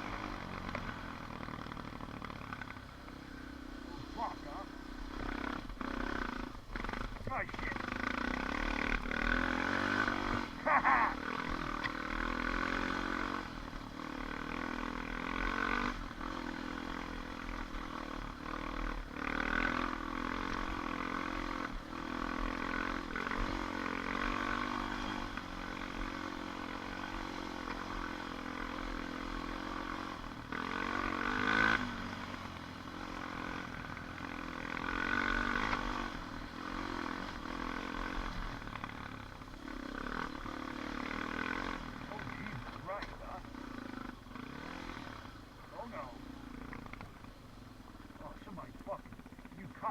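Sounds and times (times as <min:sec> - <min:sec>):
atv engine revving: 0:00.0 - 0:49.9.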